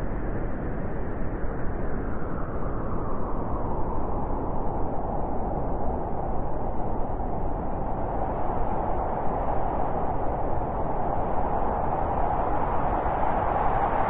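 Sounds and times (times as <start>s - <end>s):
wind blowing steadily: 0.0s - 14.0s.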